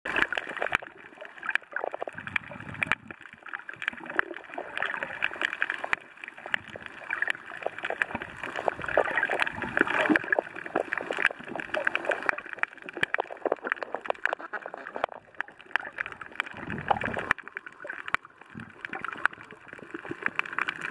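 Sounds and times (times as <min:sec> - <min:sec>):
sharp clicks and crackles: 0:00.1 - 0:20.9
underwater gurgling and bubbling: 0:00.1 - 0:20.9.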